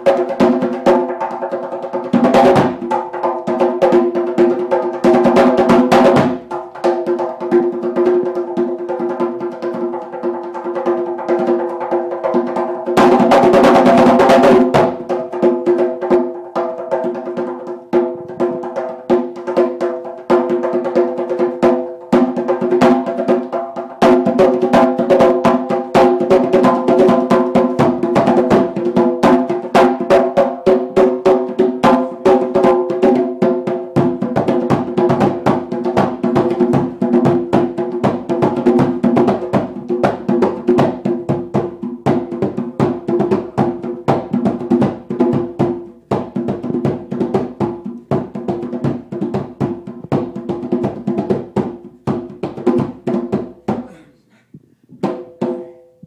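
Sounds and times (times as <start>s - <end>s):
djembe played by hand: 0.0s - 54.0s, 54.9s - 56.0s.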